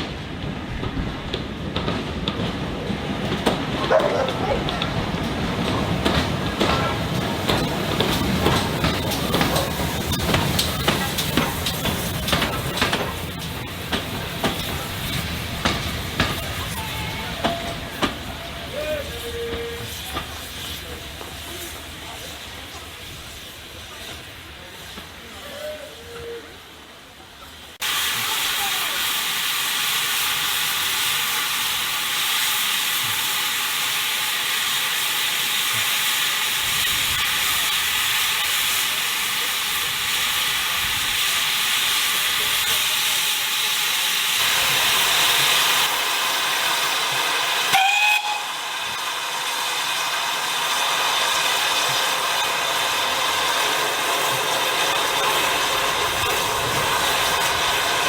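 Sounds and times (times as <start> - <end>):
steam locomotive hissing steam: 1.2 - 58.0.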